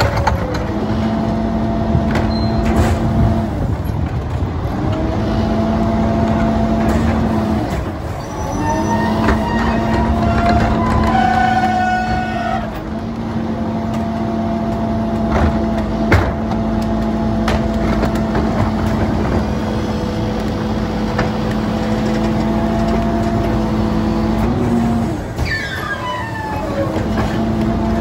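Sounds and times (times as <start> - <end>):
garbage truck hydraulic hum: 5.0 - 28.0.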